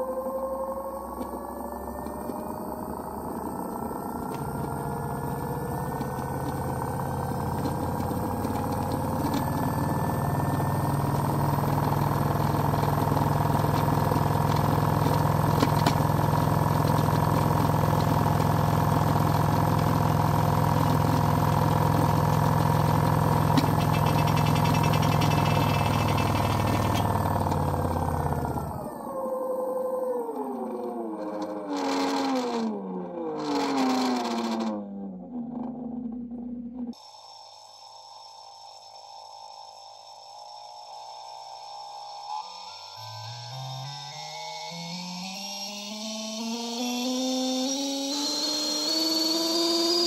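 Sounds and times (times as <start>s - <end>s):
electric motor hum and whine: 0.0s - 50.0s.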